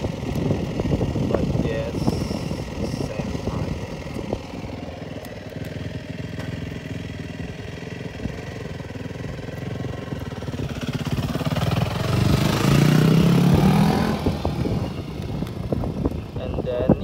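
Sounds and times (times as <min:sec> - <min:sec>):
vehicle engine idling: 0:00.0 - 0:12.5, 0:14.2 - 0:17.0
vehicle passing close: 0:00.0 - 0:16.4.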